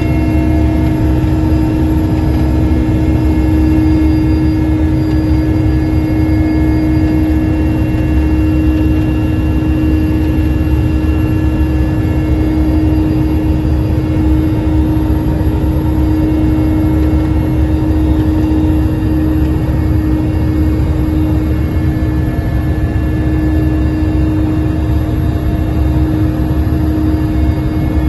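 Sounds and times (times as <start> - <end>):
aircraft engine rumble: 0.0 - 28.0.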